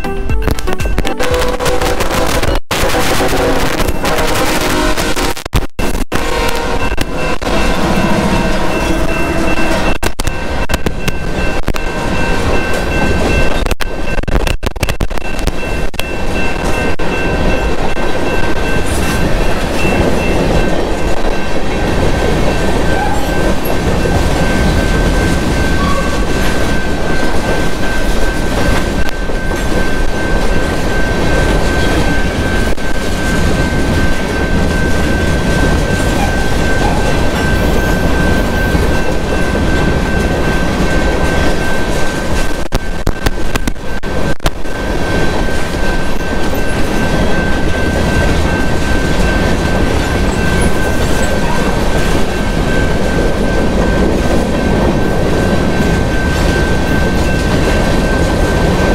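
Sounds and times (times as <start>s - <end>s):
constant high whine: 0.0s - 58.9s
train wheels rumbling on rail: 0.0s - 58.9s.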